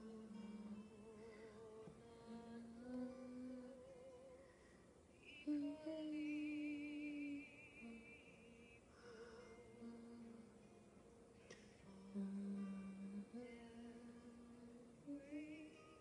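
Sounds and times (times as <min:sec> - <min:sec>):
woman singing softly: 0:00.0 - 0:16.0.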